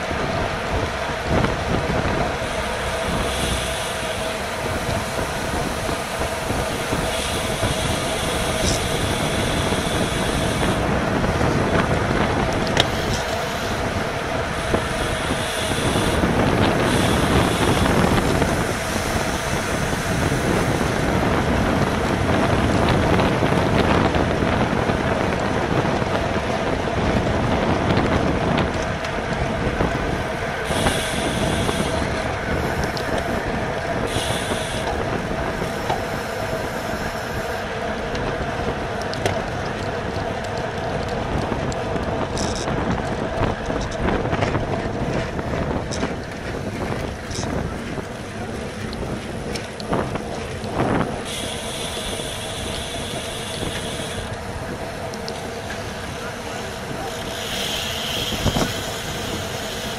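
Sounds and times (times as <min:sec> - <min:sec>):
road and tyre noise: 0:00.0 - 0:59.9
wind rushing over microphone: 0:00.0 - 0:59.9.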